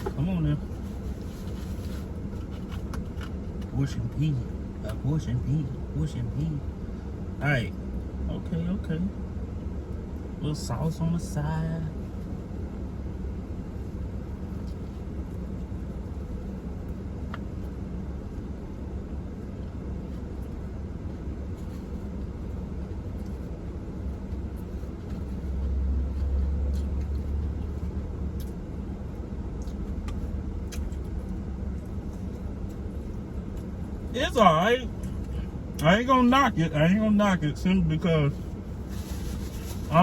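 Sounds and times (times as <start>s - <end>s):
low vehicle rumble: 0.0s - 40.0s.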